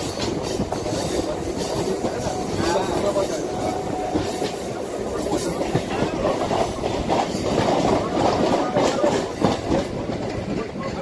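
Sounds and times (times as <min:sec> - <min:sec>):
train rumbling: 0:00.0 - 0:11.0
wheels and carriage rattling: 0:00.0 - 0:11.0.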